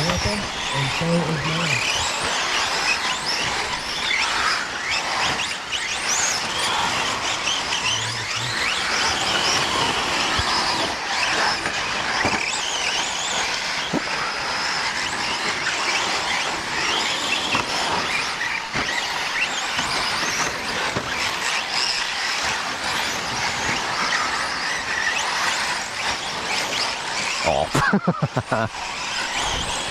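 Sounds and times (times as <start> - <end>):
rc truck motors whining: 0.0 - 29.9.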